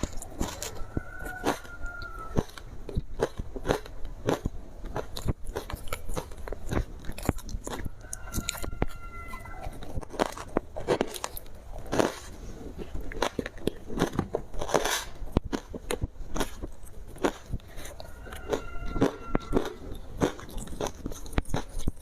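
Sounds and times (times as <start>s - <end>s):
ice being chewed: 0.0s - 22.0s.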